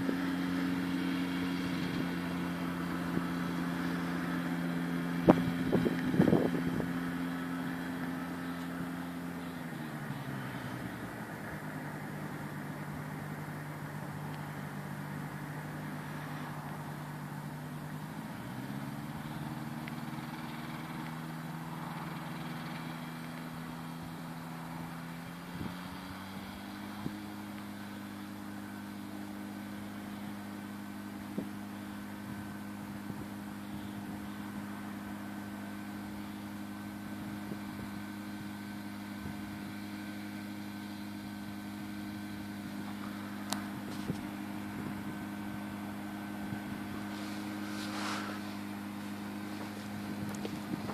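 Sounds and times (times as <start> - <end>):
ultralight aircraft engine running: 0.0 - 50.9.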